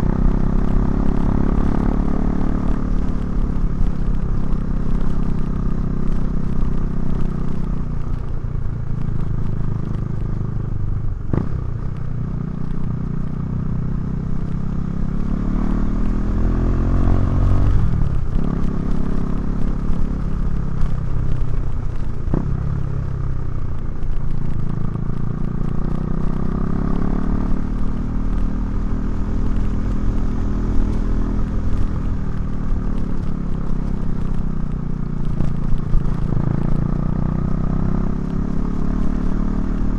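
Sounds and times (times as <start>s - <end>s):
motorcycle engine revving: 0.0s - 8.1s, 9.2s - 39.9s
wind and road noise: 0.0s - 39.9s.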